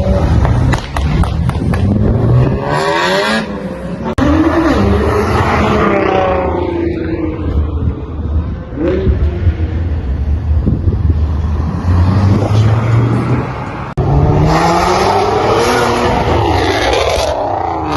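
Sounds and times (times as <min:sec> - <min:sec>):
car engines rumbling: 0:00.0 - 0:17.9.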